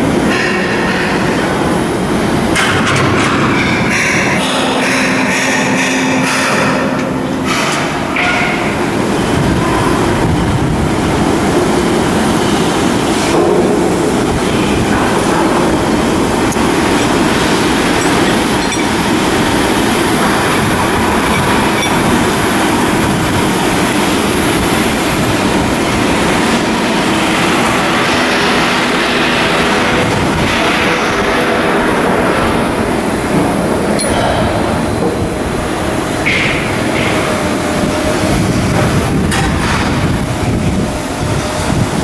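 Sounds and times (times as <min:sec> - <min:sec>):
loud machinery din: 0:00.0 - 0:42.0.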